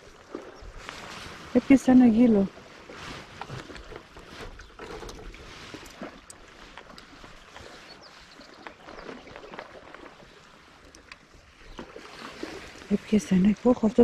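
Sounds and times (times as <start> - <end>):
small waves lapping: 0.0 - 14.0.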